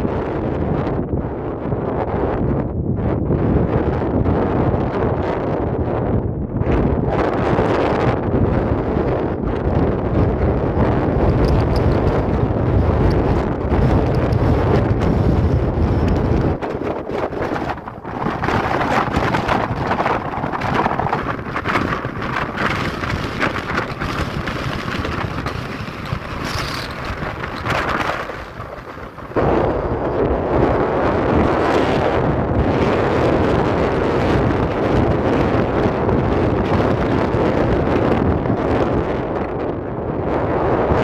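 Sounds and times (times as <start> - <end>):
strong wind gusts buffeting microphone: 0.0 - 41.0.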